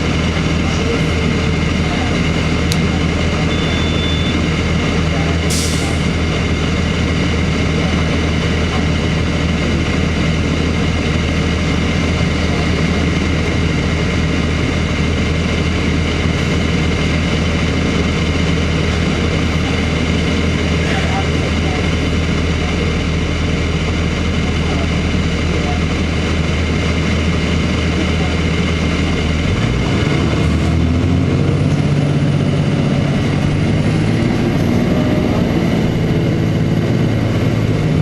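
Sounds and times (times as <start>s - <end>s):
diesel bus engine humming: 0.0s - 38.0s.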